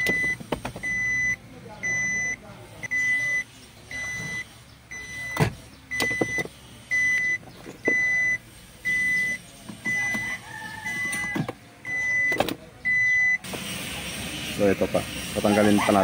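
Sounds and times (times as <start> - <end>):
dashboard warning beeps: 0.0 - 13.7.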